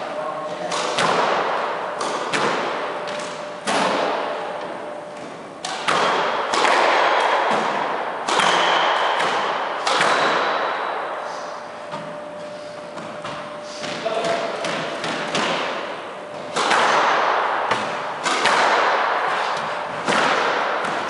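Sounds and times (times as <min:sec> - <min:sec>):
squash ball hits echoing: 0:00.6 - 0:21.0.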